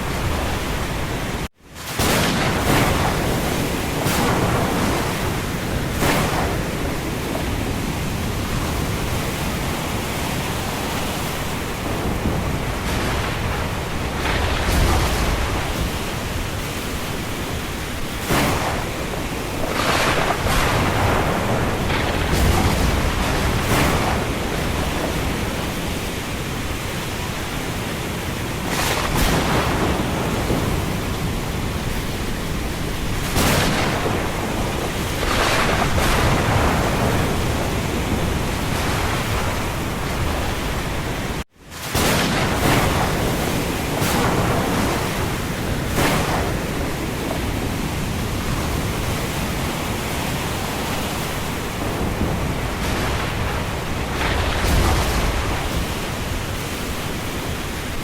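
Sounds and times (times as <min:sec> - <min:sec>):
deep thunder rumble: 0:00.0 - 0:58.0
heavy rain: 0:00.0 - 0:58.0
wind: 0:00.0 - 0:58.0.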